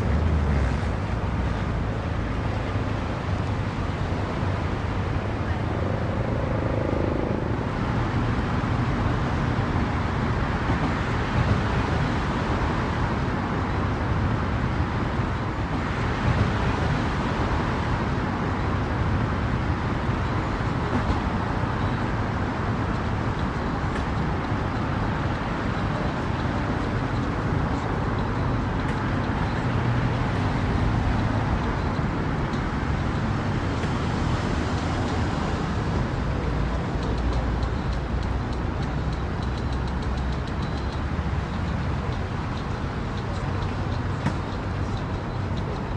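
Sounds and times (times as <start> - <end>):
engines rumbling at low speed: 0.0 - 45.9.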